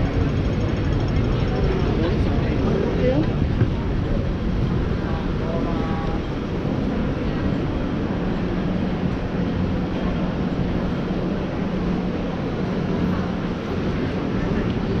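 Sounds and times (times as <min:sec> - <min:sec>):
city street traffic: 0:00.0 - 0:15.0
continuous low hum: 0:00.0 - 0:15.0.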